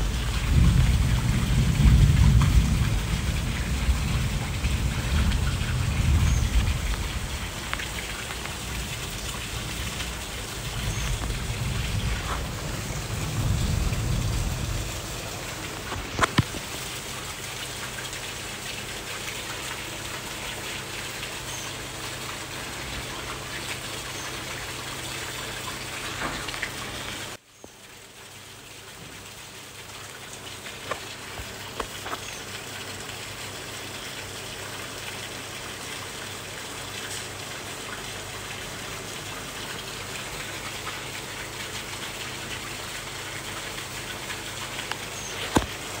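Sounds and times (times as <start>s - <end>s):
rain falling on plants: 0.0s - 46.0s.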